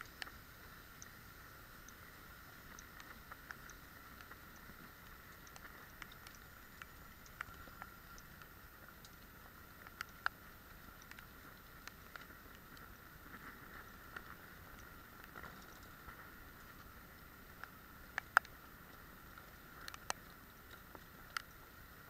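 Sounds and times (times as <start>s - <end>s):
muffled rain hiss: 0.0s - 22.0s.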